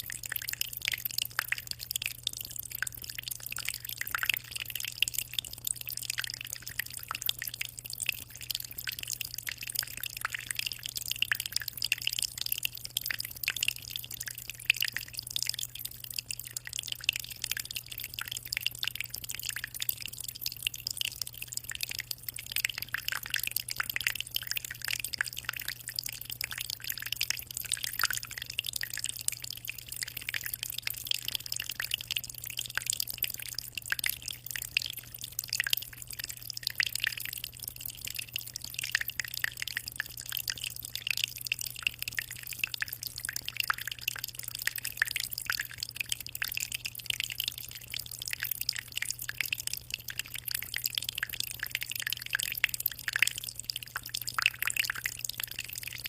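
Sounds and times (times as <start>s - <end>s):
aquarium water trickling and splashing: 0.0s - 56.0s.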